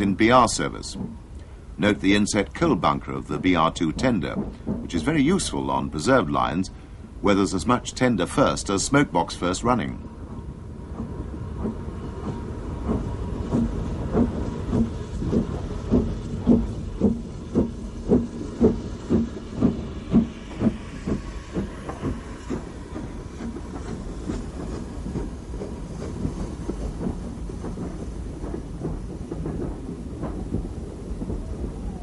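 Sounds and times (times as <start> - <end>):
steam locomotive exhaust beats: 0.0 - 32.0.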